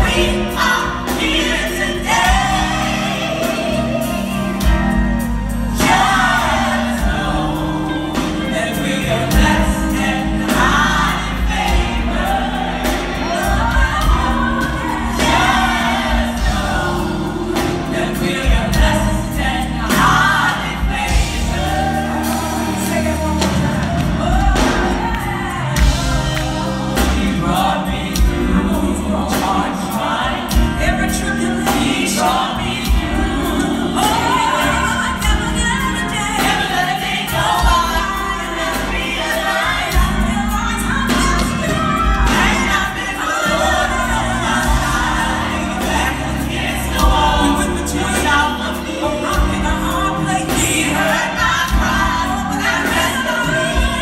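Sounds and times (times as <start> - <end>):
keyboards and guitar band: 0.0 - 54.0
voices singing gospel: 0.0 - 54.0.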